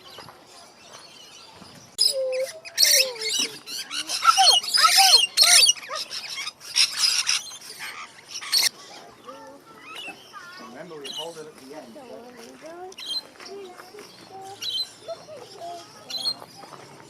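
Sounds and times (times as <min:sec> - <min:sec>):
birds calling and squawking: 0:00.0 - 0:17.0.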